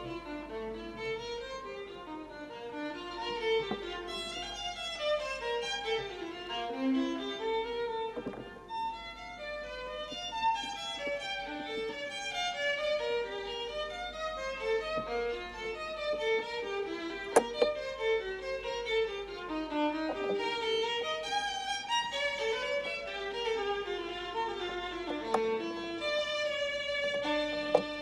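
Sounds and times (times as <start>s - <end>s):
violin melody: 0.0s - 28.0s.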